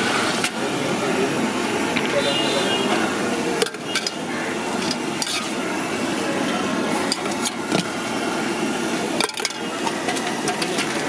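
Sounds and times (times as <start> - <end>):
food stall hubbub: 0.0 - 11.0.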